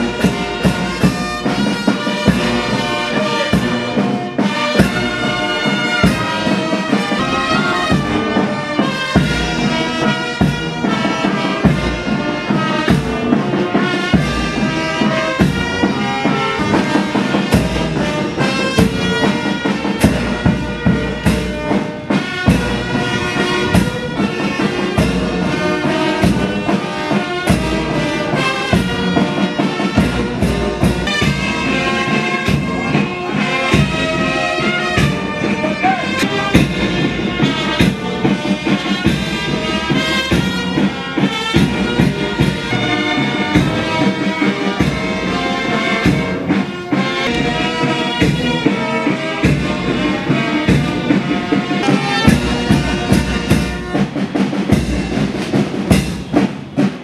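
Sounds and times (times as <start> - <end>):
brass band playing a march: 0.0 - 57.0
steady drum beat: 0.0 - 57.0.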